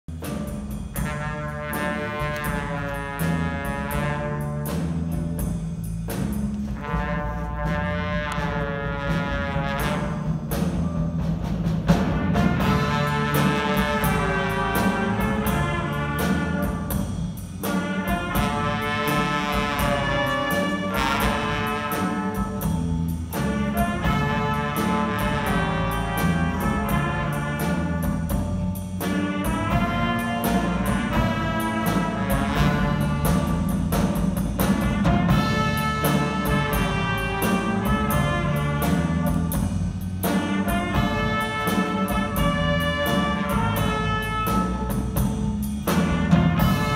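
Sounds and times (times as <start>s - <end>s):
drum kit beat: 0.0s - 46.9s
horn section playing: 0.1s - 5.9s, 6.6s - 46.9s.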